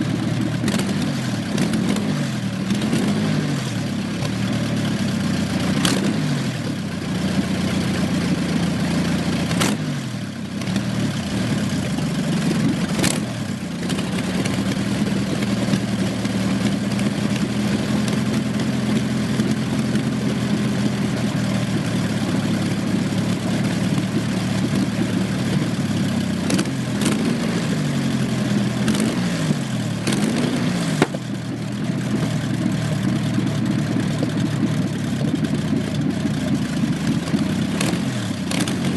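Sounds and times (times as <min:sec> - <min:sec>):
aero engine idling and revving: 0:00.0 - 0:38.9.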